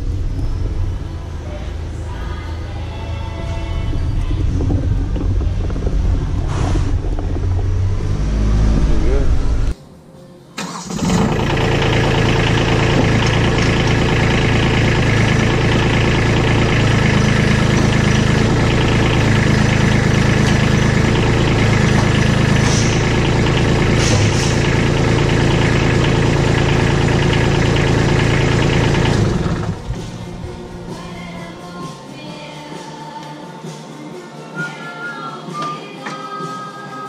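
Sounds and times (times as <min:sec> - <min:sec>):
tractor diesel engine running: 0:00.0 - 0:09.8, 0:10.6 - 0:31.9.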